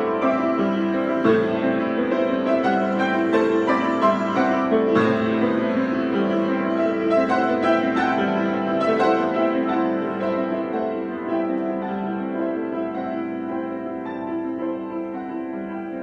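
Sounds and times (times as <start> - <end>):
piano improvisation: 0.0 - 16.0.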